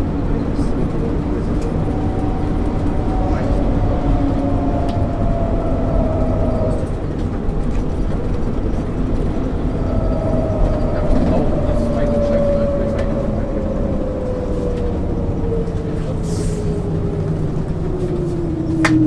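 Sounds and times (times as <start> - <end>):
bus diesel engine: 0.0 - 19.0
road rumble: 0.0 - 19.0
falling whine: 0.3 - 19.0.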